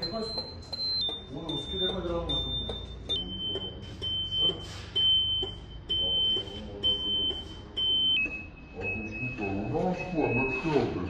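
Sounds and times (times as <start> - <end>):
electronic beeper beeping: 0.0 - 11.0.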